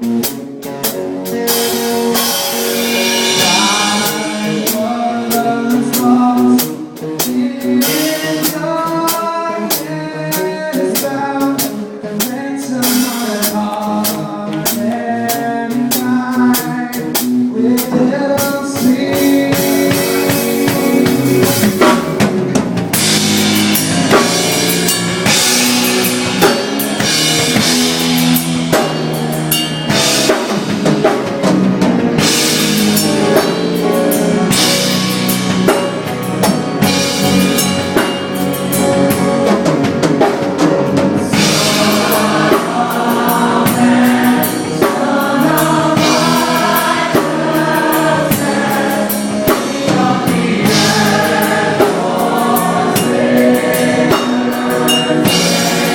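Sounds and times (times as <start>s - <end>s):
drum kit and cymbals: 0.0s - 55.9s
gospel band playing: 0.0s - 55.9s
group of singers: 0.0s - 55.9s.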